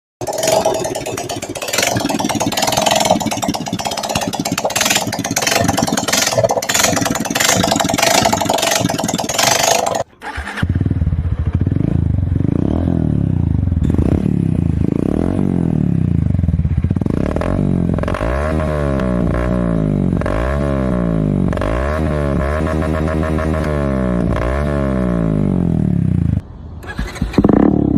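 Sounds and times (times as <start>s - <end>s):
motorcycle engine revving: 0.2s - 27.9s.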